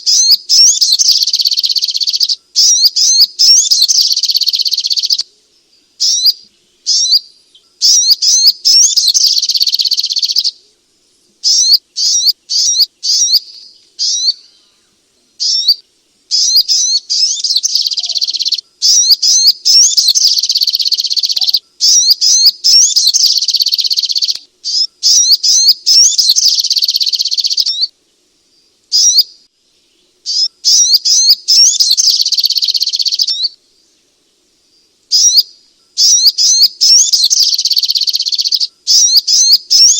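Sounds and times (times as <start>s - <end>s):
bird chirping rapidly: 0.0s - 5.2s, 6.0s - 10.6s, 11.4s - 14.5s, 15.4s - 27.9s, 28.9s - 29.4s, 30.2s - 33.6s, 35.1s - 39.9s.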